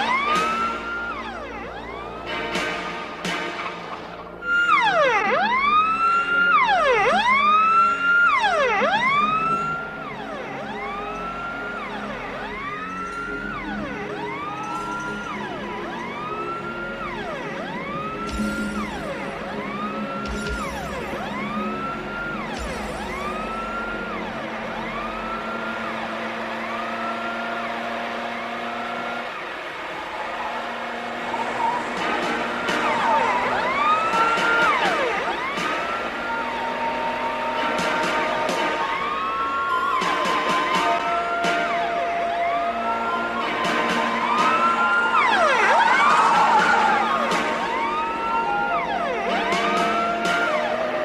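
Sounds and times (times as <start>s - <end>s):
car engines: 0.0s - 51.0s
police siren wailing: 0.0s - 51.0s.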